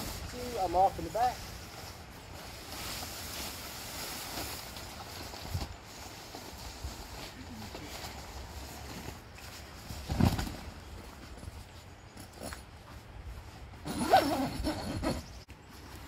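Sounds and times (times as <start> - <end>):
tent fabric rustling: 0.0 - 16.0.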